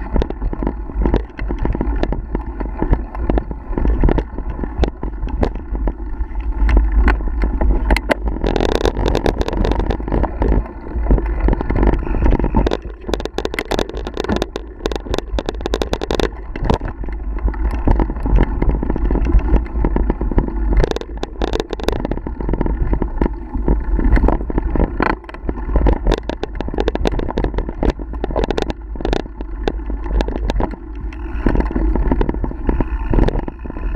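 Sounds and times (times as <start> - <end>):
bike rattling and knocking: 0.0 - 33.9
wind buffeting microphone: 0.0 - 33.9.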